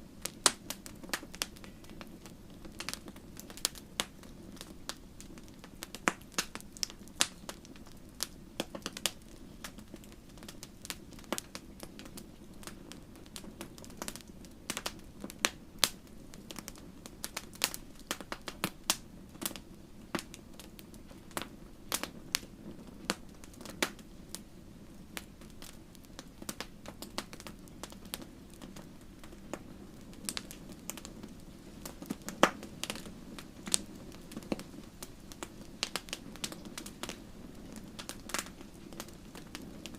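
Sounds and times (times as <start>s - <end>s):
fire popping and snapping: 0.0s - 39.9s
low rush of flames: 0.0s - 39.9s
wood fire crackling: 0.0s - 39.9s.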